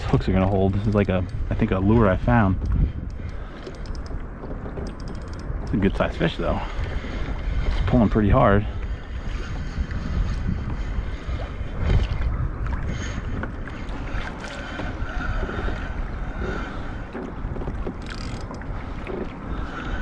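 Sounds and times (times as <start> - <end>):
water sloshing around kayak: 0.0 - 20.0
wind buffeting microphone: 0.0 - 20.0.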